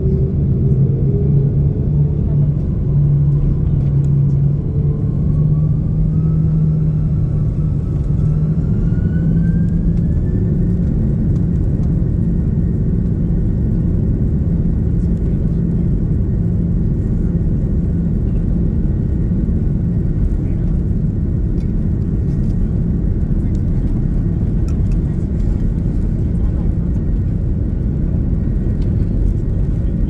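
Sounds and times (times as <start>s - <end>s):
jet engine whine: 0.0s - 30.0s
low engine rumble: 0.0s - 30.0s.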